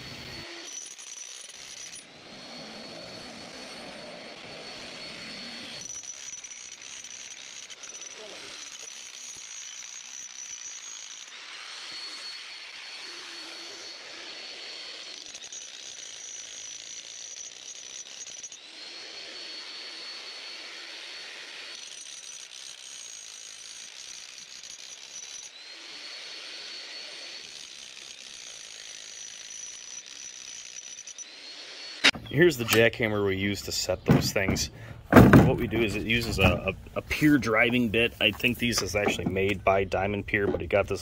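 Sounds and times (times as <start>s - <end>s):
electric jackhammer whining: 0.0s - 41.0s.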